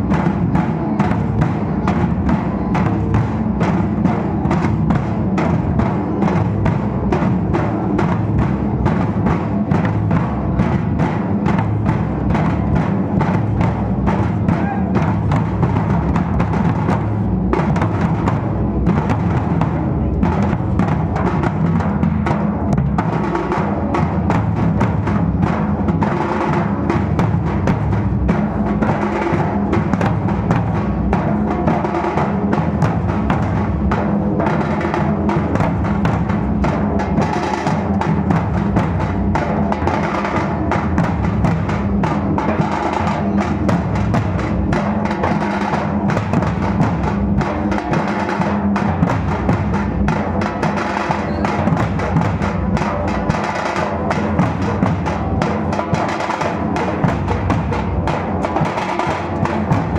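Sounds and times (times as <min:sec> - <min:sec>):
barrel drums and kettle drums: 0:00.0 - 0:59.9.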